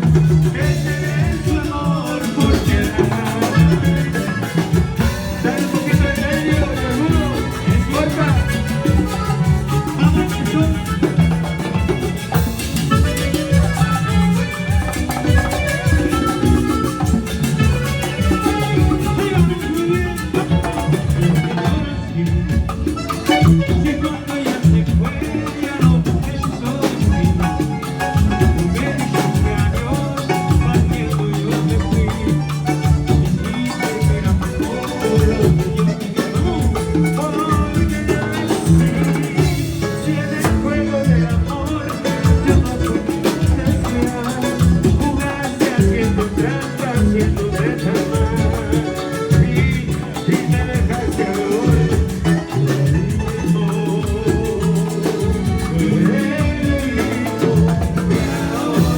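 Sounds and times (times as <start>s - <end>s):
drums and percussion beat: 0.0s - 58.9s
live band playing latin dance music: 0.0s - 58.9s.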